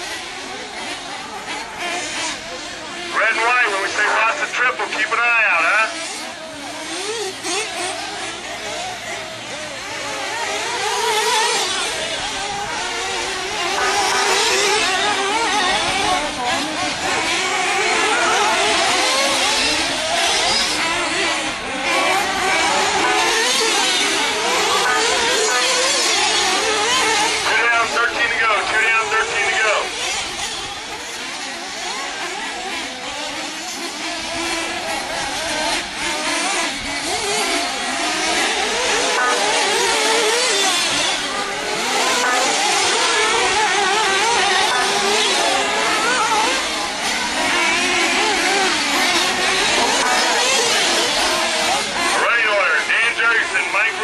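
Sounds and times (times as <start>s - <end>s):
rc car engines whining: 0.0s - 54.0s.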